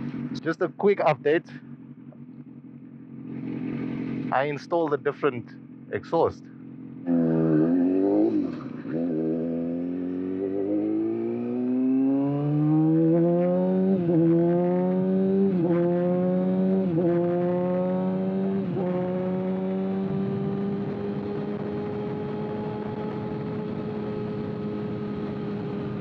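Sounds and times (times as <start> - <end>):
motorcycle engine revving through gears: 0.0 - 4.4, 5.5 - 26.0.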